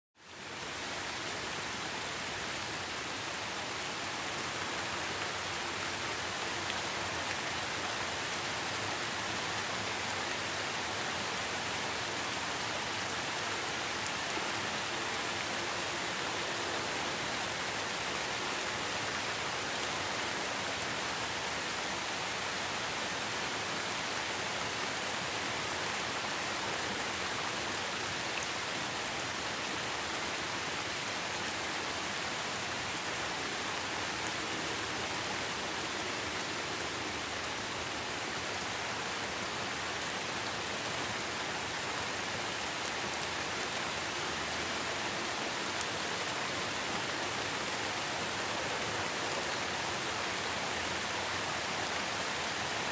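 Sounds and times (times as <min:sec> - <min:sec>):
steady rain falling: 0:00.2 - 0:52.9.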